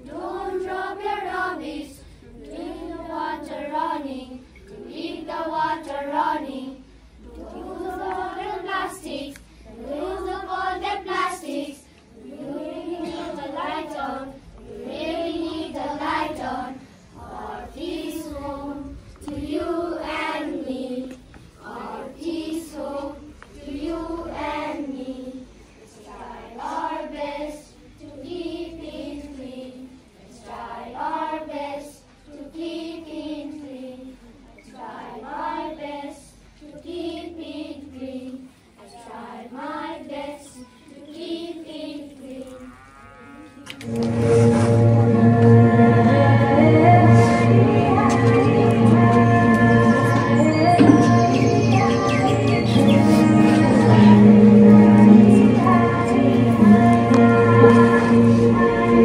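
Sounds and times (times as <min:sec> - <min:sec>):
children singing in unison: 0:00.0 - 0:59.0.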